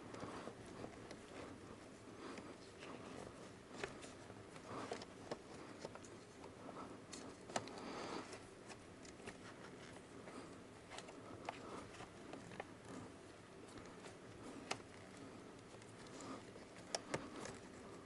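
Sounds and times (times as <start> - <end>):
rustling: 0.0 - 18.0.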